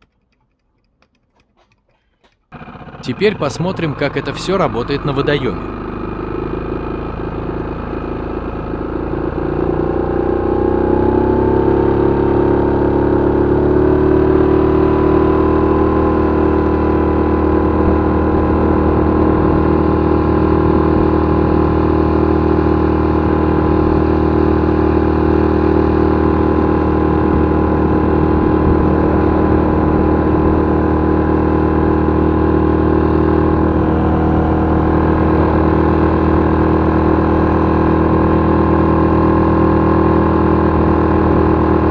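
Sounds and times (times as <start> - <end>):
outboard motor running: 2.5 - 41.9.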